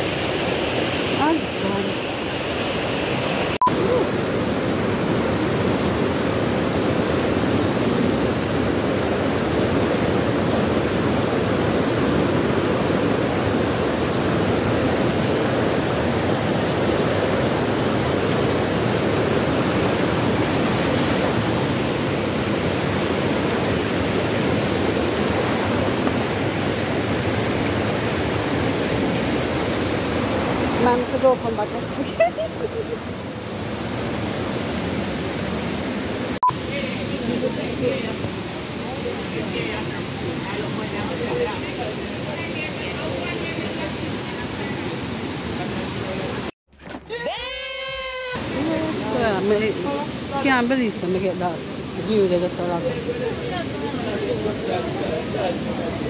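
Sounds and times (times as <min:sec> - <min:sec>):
water rushing over rocks: 0:00.0 - 0:46.5, 0:48.4 - 0:56.0.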